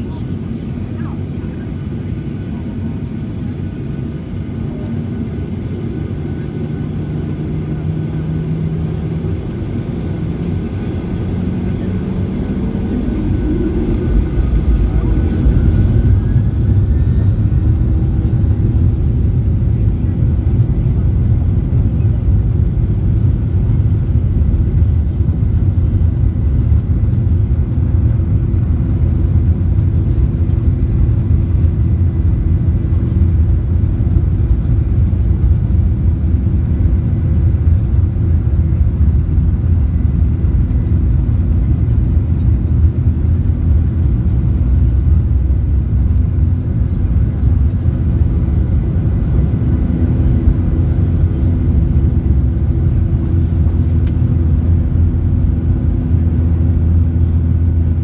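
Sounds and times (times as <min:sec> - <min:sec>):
airplane engine rumble: 0:00.0 - 0:58.0.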